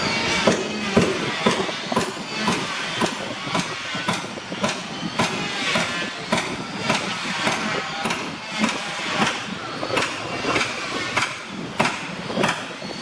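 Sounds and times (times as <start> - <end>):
hammer striking wood: 0.4 - 9.4, 10.0 - 12.7.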